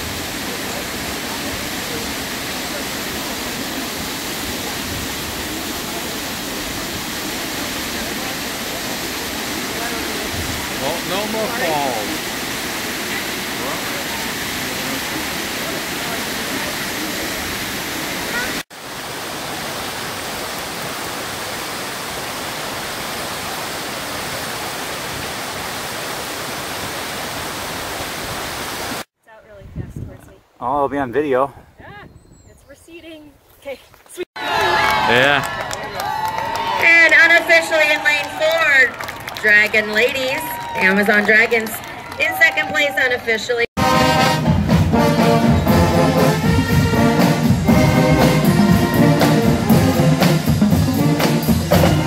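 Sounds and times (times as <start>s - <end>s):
waterfall rushing: 0.0s - 29.1s, 36.4s - 52.0s.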